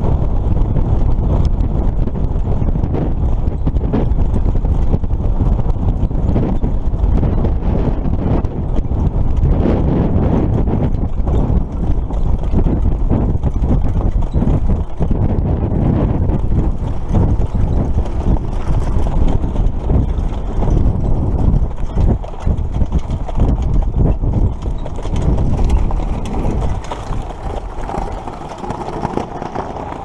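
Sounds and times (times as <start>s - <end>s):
hoofbeats on dirt: 0.0s - 30.0s
wind rumble on microphone: 0.0s - 30.0s.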